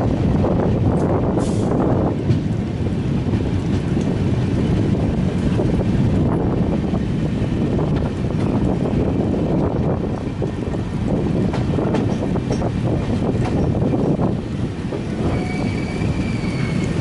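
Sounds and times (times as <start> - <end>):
train wheels rumbling on track: 0.0 - 17.0
wind noise: 0.0 - 17.0.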